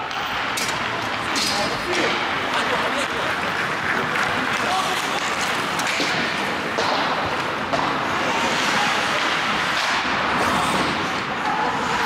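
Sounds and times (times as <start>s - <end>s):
ice rink background noise: 0.0s - 12.0s.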